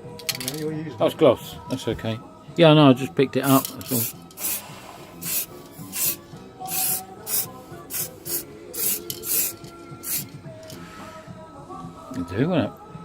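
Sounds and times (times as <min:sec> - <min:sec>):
faint radio music: 0:00.0 - 0:13.0.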